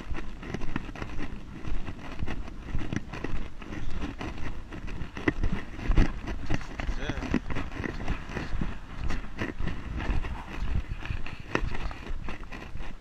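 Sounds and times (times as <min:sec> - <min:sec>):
footsteps on pavement: 0:00.0 - 0:13.0
street rumble: 0:00.0 - 0:13.0
wind buffeting microphone: 0:00.0 - 0:13.0.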